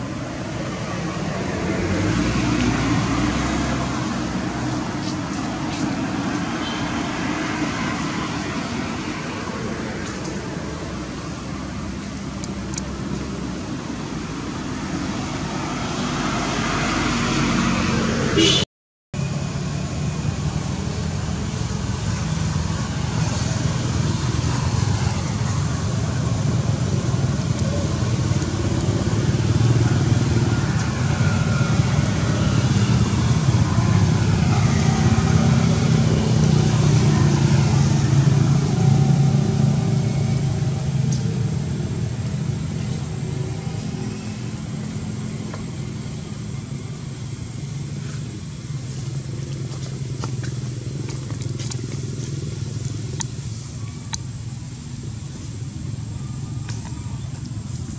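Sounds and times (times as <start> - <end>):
traffic engine rumble: 0.0 - 57.9.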